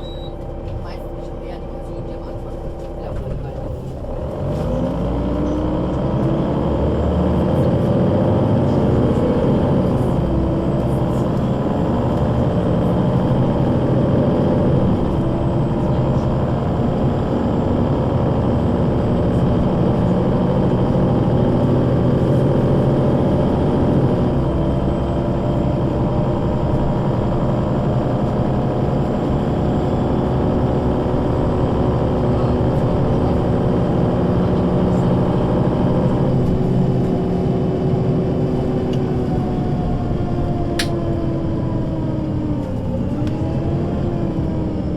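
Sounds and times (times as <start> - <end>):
bus engine driving: 0.0 - 44.9.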